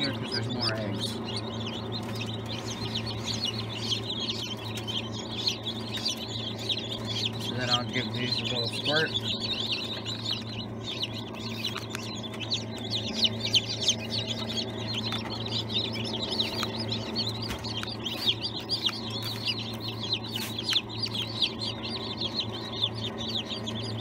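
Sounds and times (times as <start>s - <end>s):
chicks peeping: 0.0s - 24.0s
low hum: 0.0s - 24.0s.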